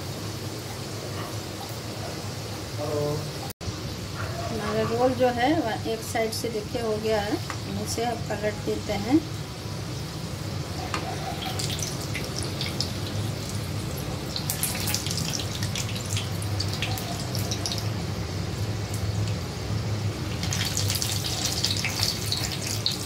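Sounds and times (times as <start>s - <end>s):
oil bubbling and crackling: 3.6s - 23.0s.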